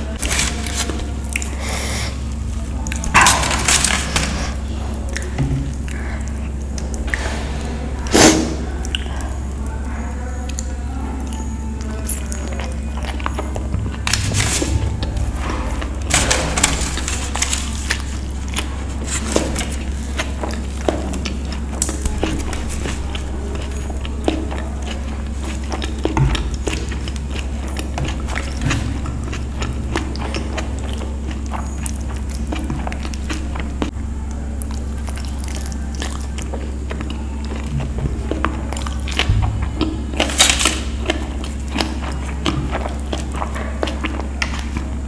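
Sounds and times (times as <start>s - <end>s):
wet chewing and lip smacks: 0.0s - 7.5s, 8.6s - 45.0s
steady low hum: 0.0s - 45.0s.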